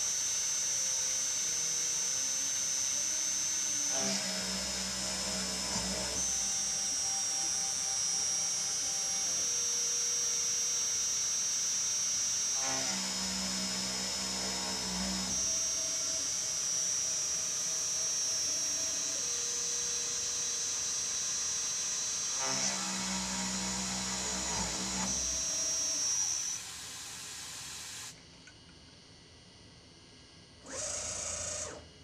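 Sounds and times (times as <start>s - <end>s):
milling spindle whine: 0.1s - 28.2s, 30.6s - 32.0s.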